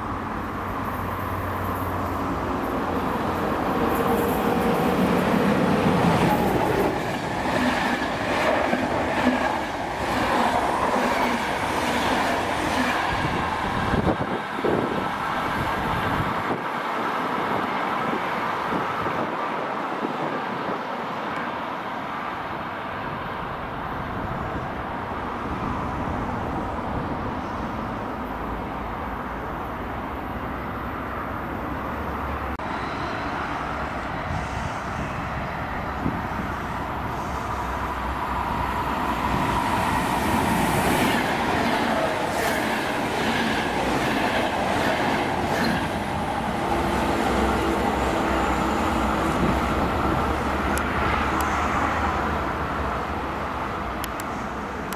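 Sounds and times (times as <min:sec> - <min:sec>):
train passing at speed: 0:00.0 - 0:54.9.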